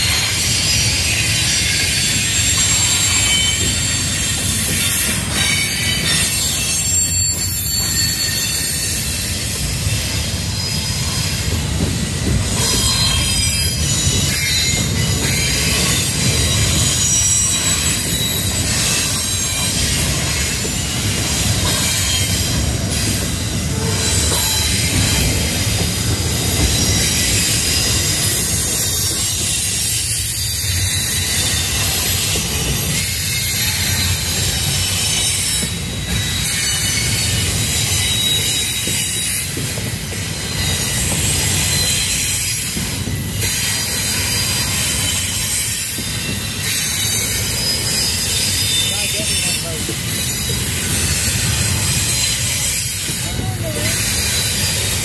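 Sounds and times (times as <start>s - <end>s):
low rumble of train cars: 0.0s - 55.0s
train wheels squealing: 0.0s - 55.0s.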